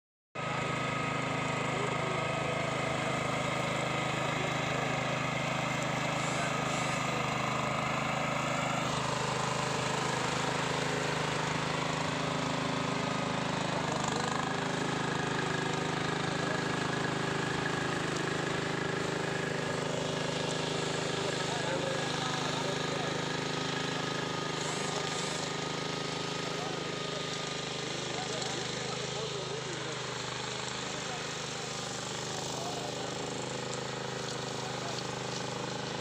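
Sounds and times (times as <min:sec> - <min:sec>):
ride-on mower engine running: 0:00.4 - 0:36.0.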